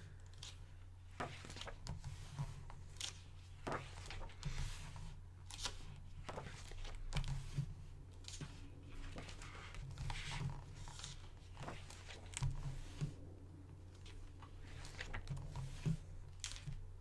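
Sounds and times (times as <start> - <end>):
book pages turning: 0.0 - 16.9.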